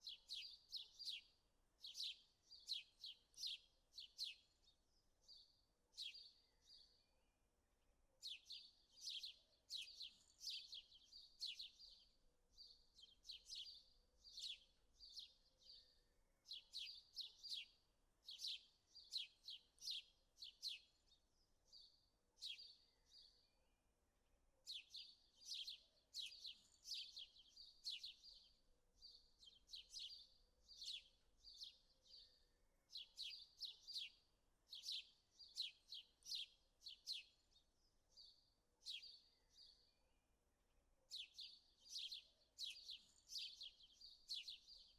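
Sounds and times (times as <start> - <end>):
small birds chirping: 0.0 - 7.1, 8.2 - 23.6, 24.6 - 40.1, 41.0 - 44.9.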